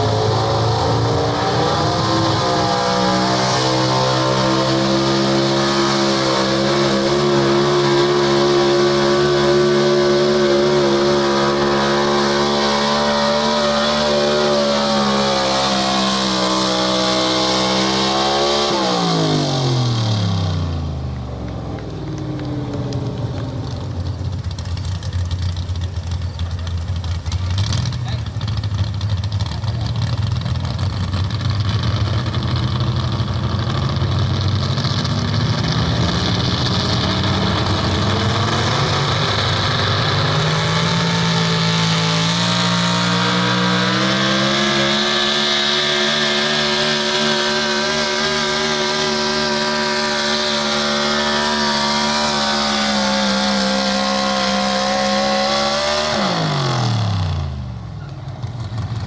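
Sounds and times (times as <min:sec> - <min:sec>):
truck engine running hard: 0:00.0 - 0:59.0.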